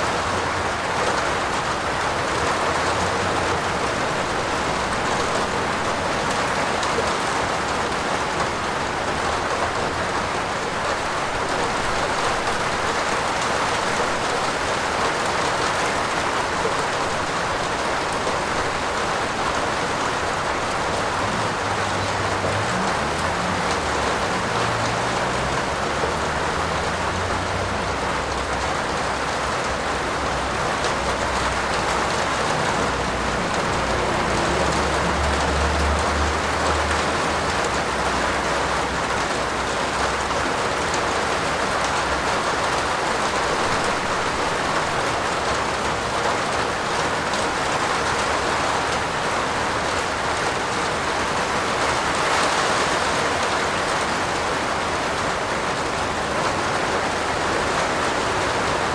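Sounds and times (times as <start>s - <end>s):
rain on a roof: 0.0s - 58.9s.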